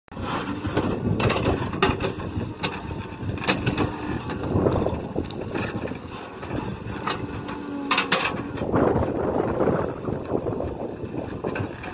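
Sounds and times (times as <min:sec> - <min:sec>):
diesel engine under load: 0:00.1 - 0:11.9.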